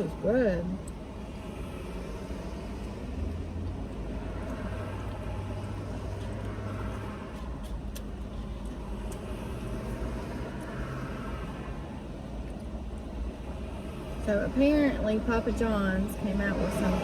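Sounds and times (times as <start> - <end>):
car engine hum from cabin: 0.0 - 17.0.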